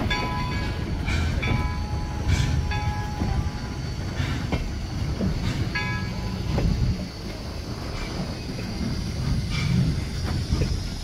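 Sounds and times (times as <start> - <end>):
steam locomotive exhaust chuffs: 0.0 - 11.0.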